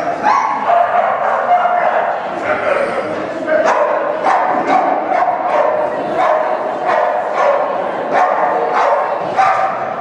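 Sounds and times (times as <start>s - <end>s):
dog barking with echo: 0.2s - 2.2s, 3.6s - 10.0s.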